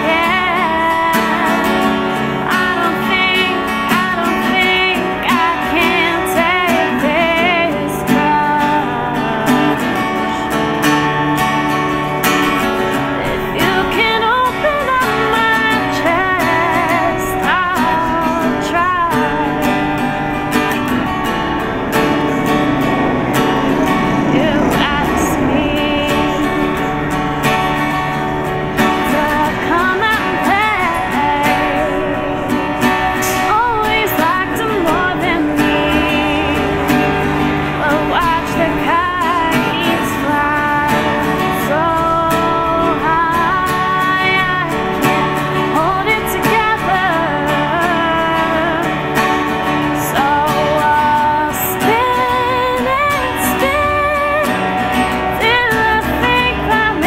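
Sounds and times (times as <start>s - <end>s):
strummed acoustic guitar: 0.0s - 57.0s
woman singing: 0.0s - 57.0s.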